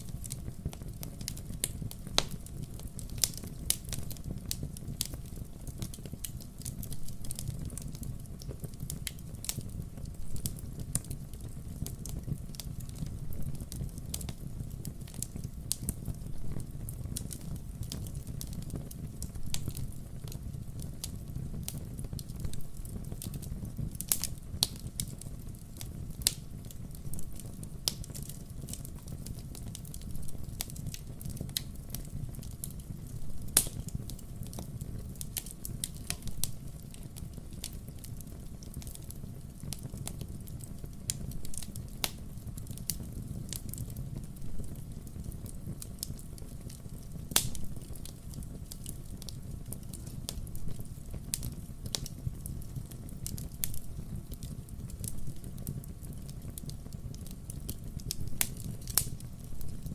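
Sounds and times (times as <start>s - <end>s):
burning firewood popping: 0.0s - 59.9s
fire low rumble: 0.0s - 59.9s.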